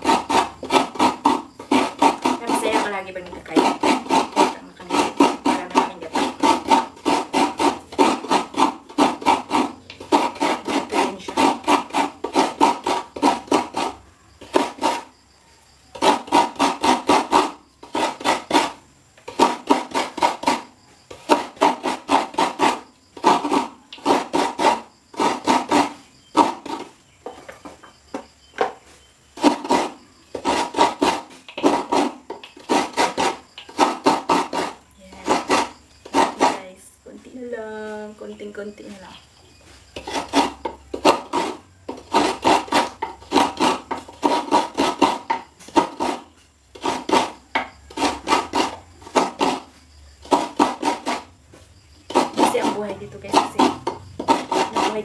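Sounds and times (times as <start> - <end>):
coconut rasping on grater: 0.0 - 15.2, 15.9 - 27.0, 29.3 - 36.8, 39.7 - 55.0.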